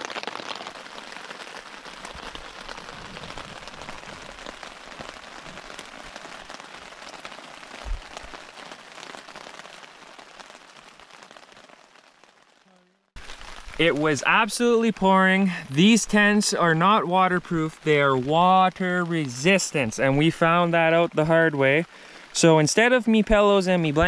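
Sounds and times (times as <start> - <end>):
rain pattering on tent fabric: 0.0 - 24.0.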